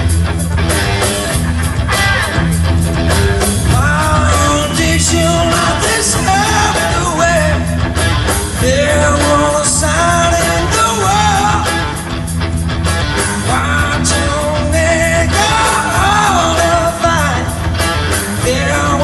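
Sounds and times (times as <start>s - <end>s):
bass and drums: 0.0s - 19.0s
electric lead guitar bending notes: 0.0s - 19.0s.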